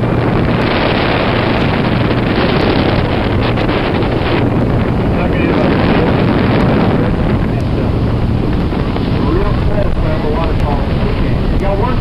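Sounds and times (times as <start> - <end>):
boat engine hum: 0.0 - 12.0
rushing water: 0.0 - 12.0
wind buffeting microphone: 0.0 - 12.0.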